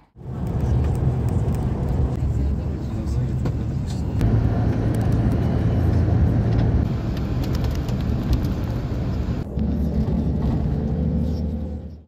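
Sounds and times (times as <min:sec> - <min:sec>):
bus engine humming: 0:00.0 - 0:12.0.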